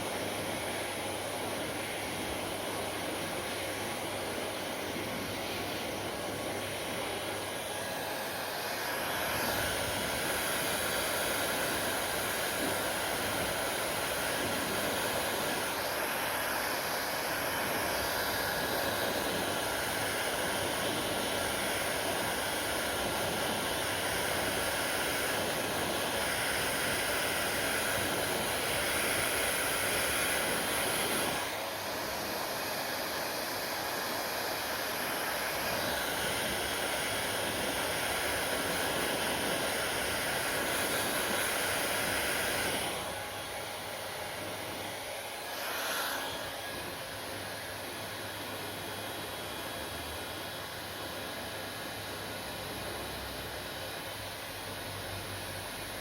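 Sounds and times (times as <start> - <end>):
hair dryer blowing: 0.0 - 56.0.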